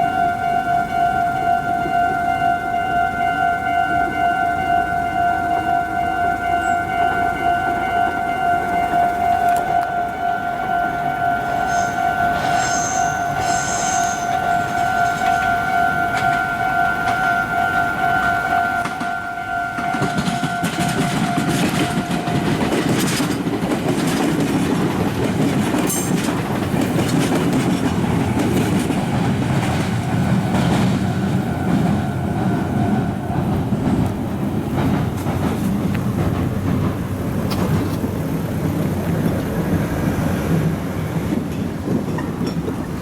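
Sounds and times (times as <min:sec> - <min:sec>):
electric train running past: 0:00.0 - 0:43.0
wheels clicking over rail joints: 0:00.0 - 0:43.0.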